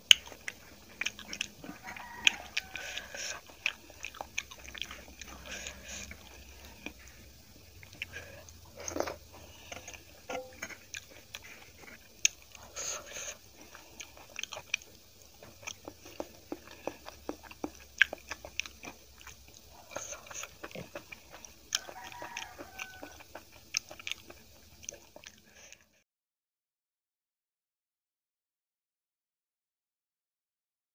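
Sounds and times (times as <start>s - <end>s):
wet chewing and smacking: 0.0s - 25.9s.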